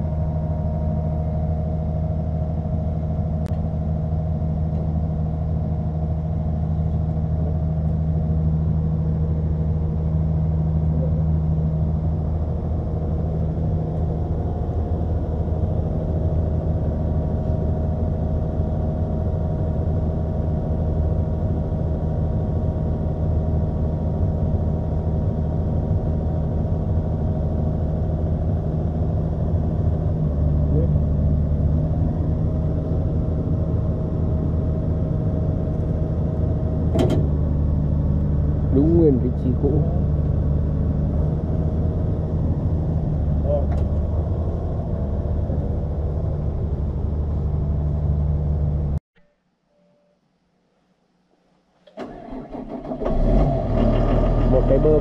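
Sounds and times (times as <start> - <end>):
diesel engine idling: 0.0 - 49.0, 52.0 - 55.0.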